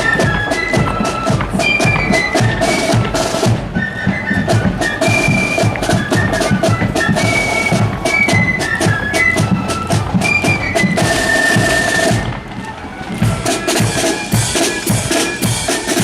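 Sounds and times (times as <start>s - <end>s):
flutes playing high melody: 0.0s - 16.0s
rapid snare drumming: 0.0s - 16.0s.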